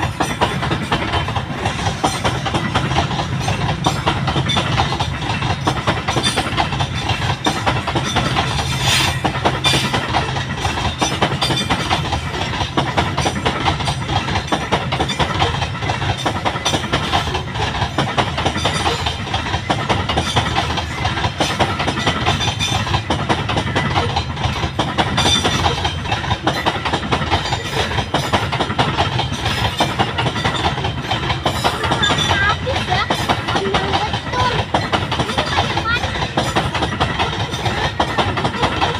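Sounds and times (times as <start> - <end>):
low train rumble: 0.0 - 38.9
train wheels clattering over rail joints: 0.0 - 38.9.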